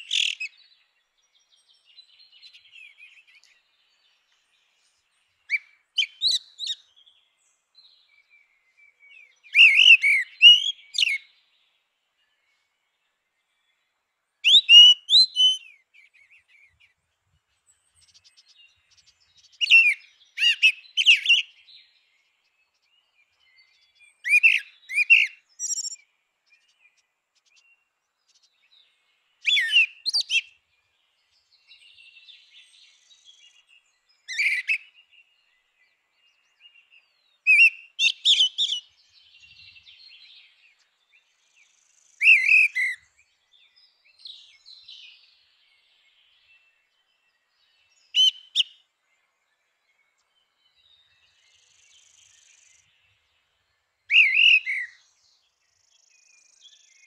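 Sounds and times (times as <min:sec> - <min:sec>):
blackbird whistled song: 0:00.0 - 0:57.0.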